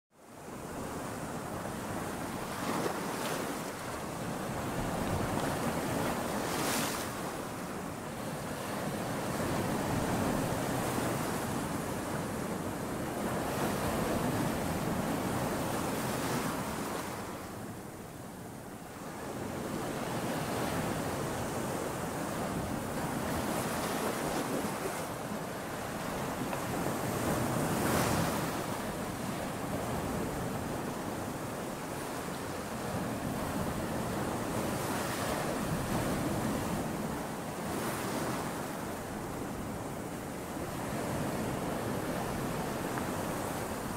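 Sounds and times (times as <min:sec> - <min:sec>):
ocean waves breaking: 0:00.5 - 0:17.4, 0:19.2 - 0:43.9.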